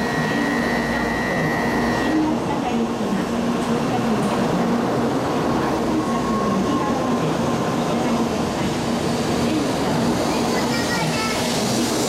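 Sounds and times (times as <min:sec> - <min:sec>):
train wheels and running noise: 0:00.0 - 0:12.0.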